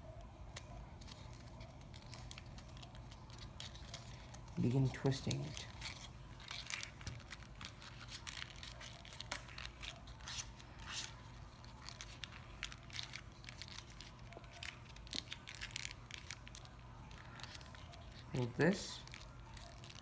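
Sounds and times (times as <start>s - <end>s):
paper crinkling and rustling: 0.0s - 20.0s.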